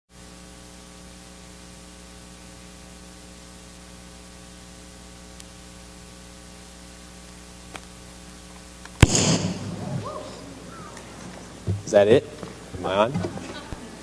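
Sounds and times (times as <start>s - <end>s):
electrical mains hum with hiss: 0.1s - 14.0s.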